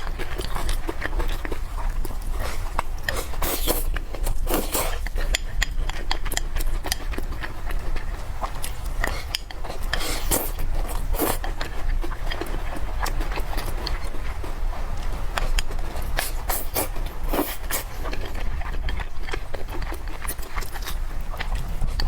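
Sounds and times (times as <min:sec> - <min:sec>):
chewing mouth sounds: 0:00.0 - 0:22.0.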